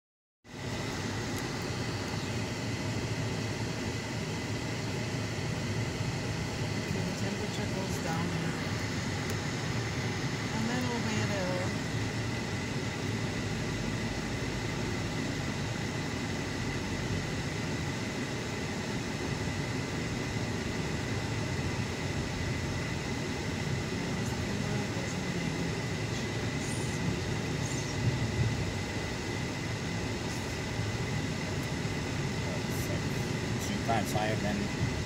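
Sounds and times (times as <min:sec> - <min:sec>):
car road and engine noise: 0:00.5 - 0:35.0
thin high whine: 0:00.5 - 0:35.0.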